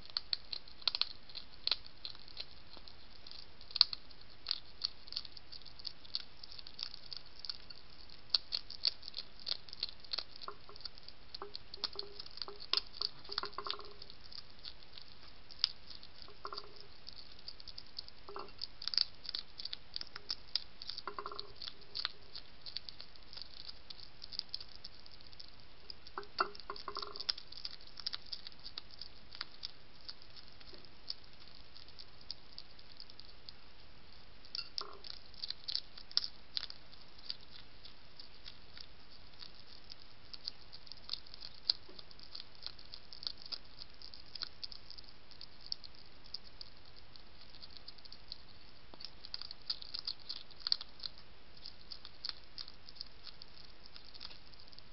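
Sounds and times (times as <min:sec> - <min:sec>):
hedgehog crunching kibble: 0:00.0 - 0:54.9.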